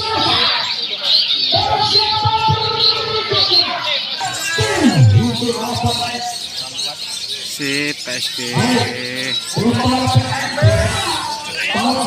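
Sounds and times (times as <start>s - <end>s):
songbirds chirping faintly: 0.0s - 12.0s
voices over loudspeaker: 0.0s - 12.0s.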